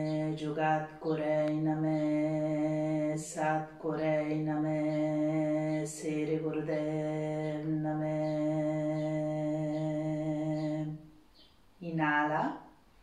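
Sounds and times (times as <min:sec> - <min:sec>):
woman chanting low: 0:00.0 - 0:11.0.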